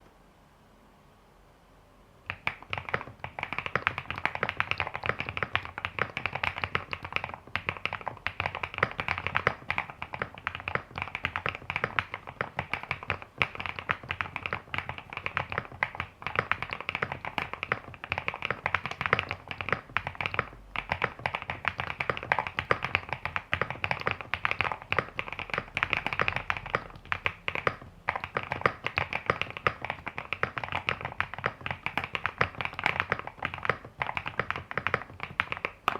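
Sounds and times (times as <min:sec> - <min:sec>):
mechanical keyboard typing: 0:02.3 - 0:35.9.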